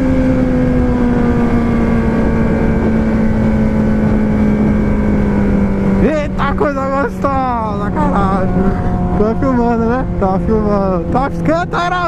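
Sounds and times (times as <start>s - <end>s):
car engine running at high revs: 0.0s - 12.0s
road noise: 0.0s - 12.0s
rushing wind: 0.0s - 12.0s.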